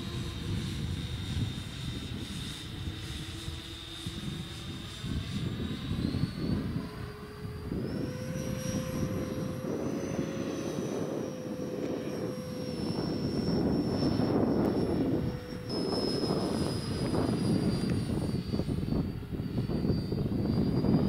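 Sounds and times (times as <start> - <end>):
model jet fan whining: 0.0 - 21.0.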